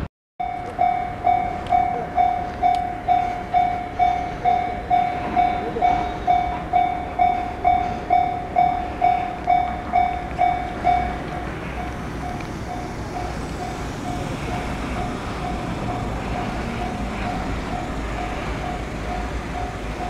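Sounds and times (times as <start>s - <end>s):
level crossing warning bell: 0.4s - 20.0s.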